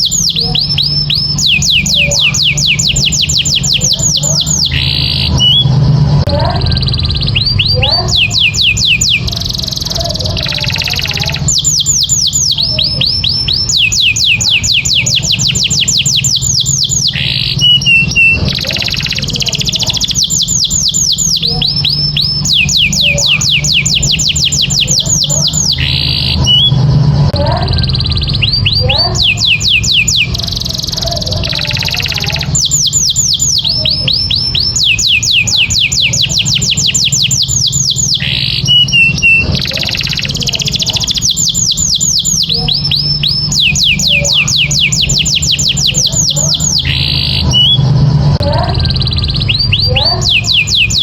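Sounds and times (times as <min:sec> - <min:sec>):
canary singing trills: 0:00.0 - 0:51.0
steady low hum: 0:00.0 - 0:51.0.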